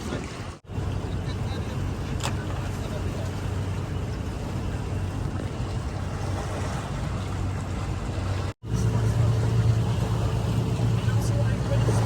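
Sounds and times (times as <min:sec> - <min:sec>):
speedboat engine humming: 0:00.0 - 0:12.0.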